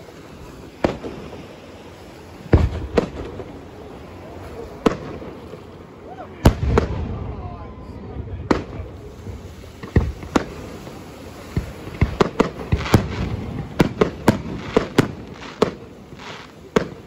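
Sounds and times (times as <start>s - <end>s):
fireworks bursting with sharp bangs: 0.0s - 17.0s.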